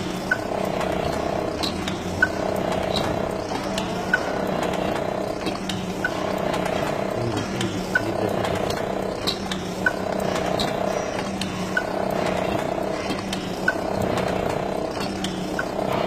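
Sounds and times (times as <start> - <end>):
filling machine humming: 0.0 - 16.0
light machine ticks: 0.0 - 16.0
sharp machine clicks: 0.0 - 16.0.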